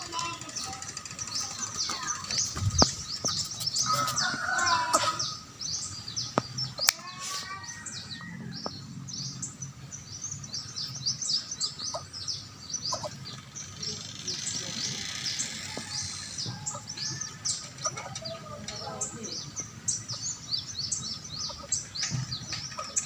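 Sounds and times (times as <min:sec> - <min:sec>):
chicks chirping high-pitched: 0:00.0 - 0:23.0.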